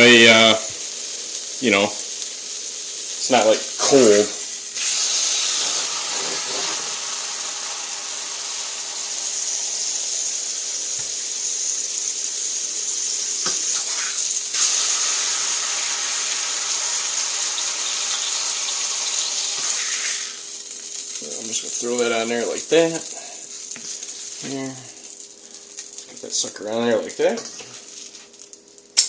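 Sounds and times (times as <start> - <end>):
butter sizzling in a frying pan: 0.0 - 29.0.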